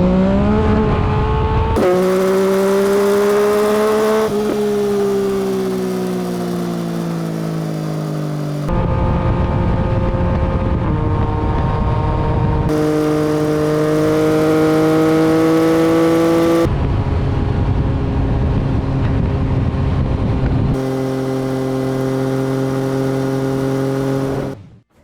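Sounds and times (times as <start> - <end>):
motorcycle engine accelerating: 0.0 - 24.8.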